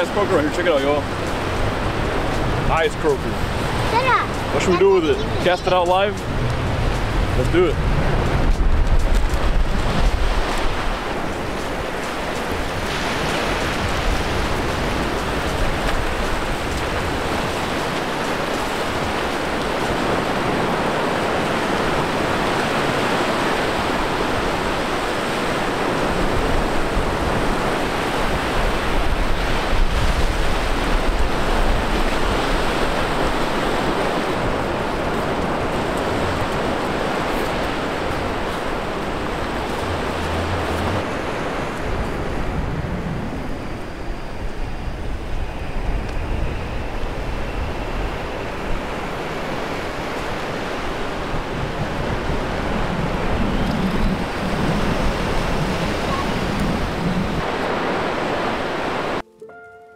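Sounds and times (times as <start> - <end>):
surf breaking on beach: 0.0 - 59.2
wind rumbling on microphone: 0.0 - 59.2.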